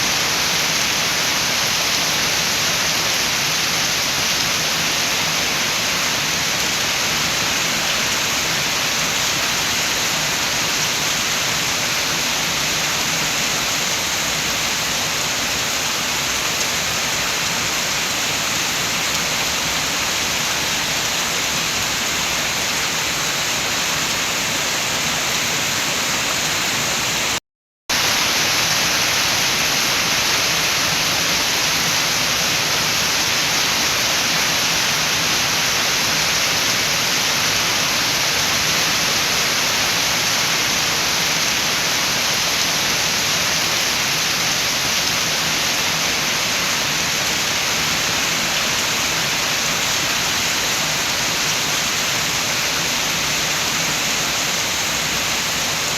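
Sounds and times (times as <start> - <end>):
steady rain: 0.0 - 55.9
wind: 0.0 - 55.9.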